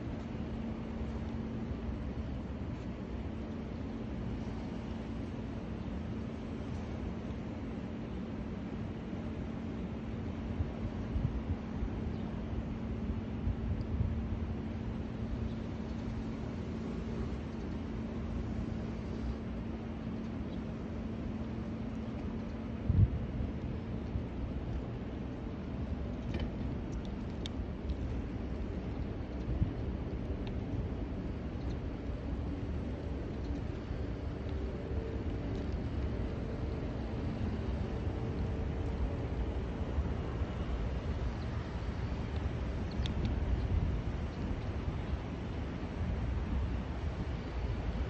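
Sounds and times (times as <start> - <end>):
bicycle tyre and road noise: 0.0 - 48.0
city traffic: 0.0 - 48.0
constant low hum: 0.0 - 48.0
wind rumble on microphone: 0.0 - 48.0.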